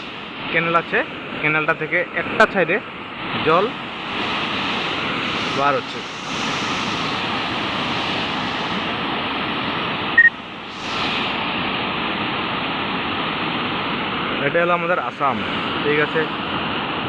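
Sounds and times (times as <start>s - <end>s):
water rushing from sluice gate: 3.2s - 17.0s.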